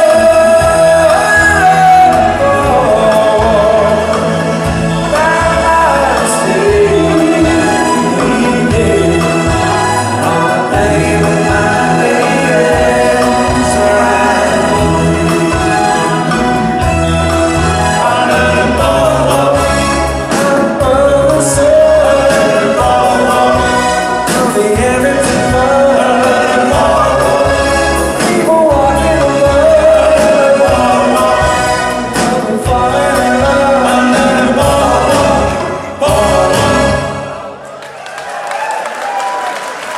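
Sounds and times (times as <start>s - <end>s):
live rock band: 0.0s - 37.6s
man singing lead: 0.0s - 37.6s.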